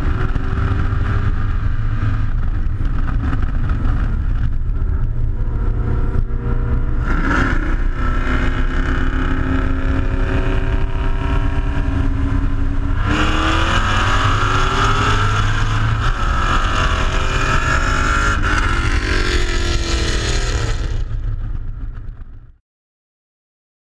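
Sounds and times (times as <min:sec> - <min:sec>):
car engine accelerating hard: 0:00.0 - 0:21.3
wind rushing: 0:00.0 - 0:22.0.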